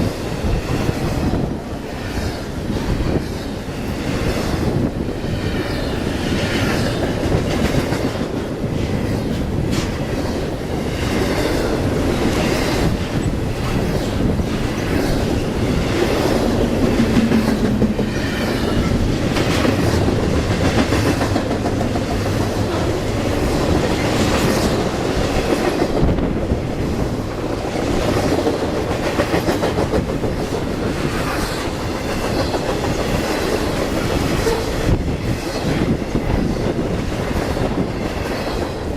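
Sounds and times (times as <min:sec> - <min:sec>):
train rumble: 0:00.0 - 0:38.9
wheels clicking over rail joints: 0:00.0 - 0:38.9.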